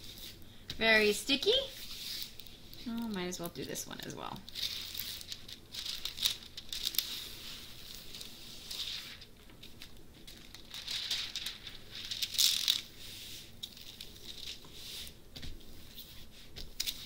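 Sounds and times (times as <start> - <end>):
plastic film rustling and crinkling: 0.0 - 17.0.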